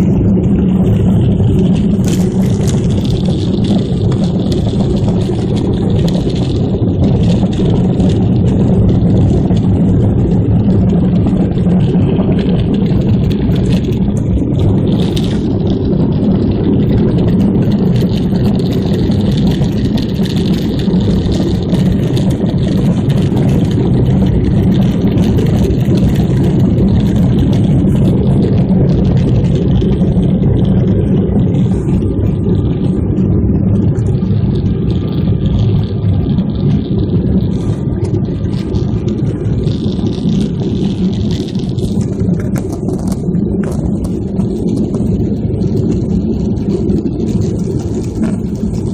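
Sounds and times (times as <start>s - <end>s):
airliner cabin engine drone: 0.0s - 48.9s.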